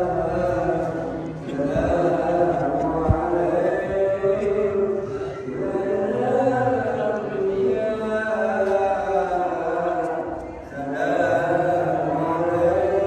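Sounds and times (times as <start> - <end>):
voices chanting a recitation: 0.0 - 13.0.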